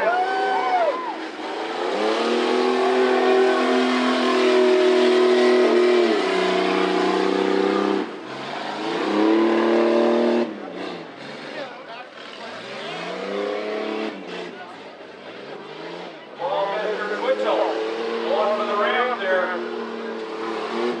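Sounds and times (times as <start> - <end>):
truck engine revving high: 0.0 - 21.0.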